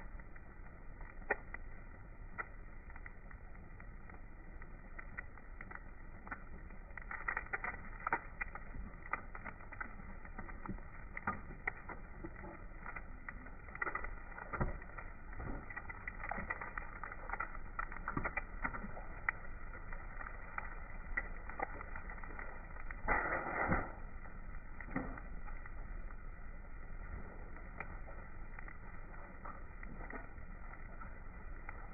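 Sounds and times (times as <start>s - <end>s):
egg sizzling in oil: 0.2s - 31.9s.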